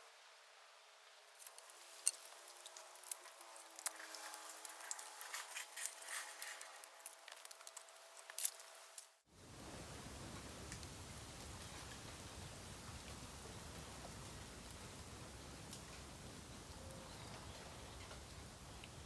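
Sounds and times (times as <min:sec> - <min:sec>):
bamboo crackling and popping: 0:01.2 - 0:19.0.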